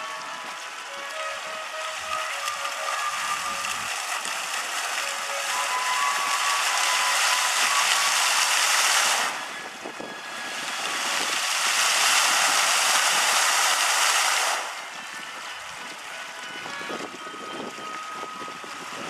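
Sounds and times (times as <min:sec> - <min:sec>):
fountain water jets splashing: 0:00.0 - 0:19.0.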